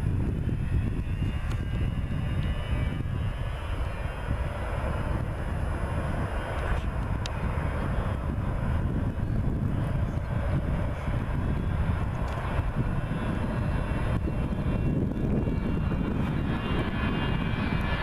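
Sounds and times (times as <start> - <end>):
distant jet engine rumble: 0.0 - 18.0.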